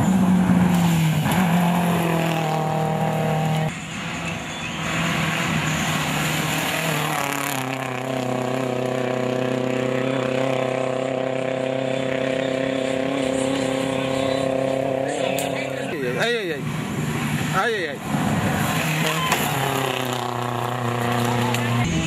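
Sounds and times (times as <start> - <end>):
rally car engines revving high: 0.0 - 22.0.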